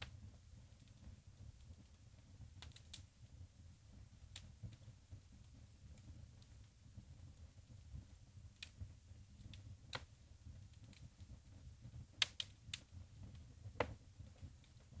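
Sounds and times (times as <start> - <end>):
fireplace flame rumble: 0.0 - 15.0
logs crackling and popping: 0.0 - 15.0.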